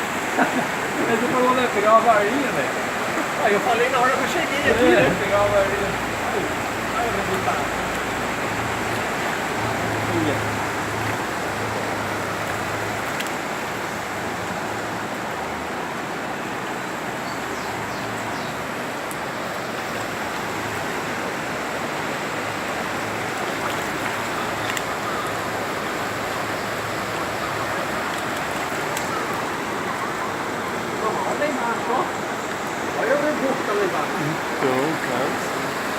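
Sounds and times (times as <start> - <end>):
heavy rain: 0.0 - 35.9
runoff water rushing along street: 0.0 - 35.9.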